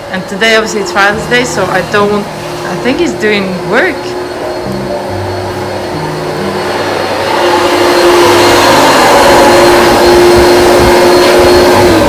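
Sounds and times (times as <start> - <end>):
carpet cleaner vacuum whining: 0.0 - 12.0.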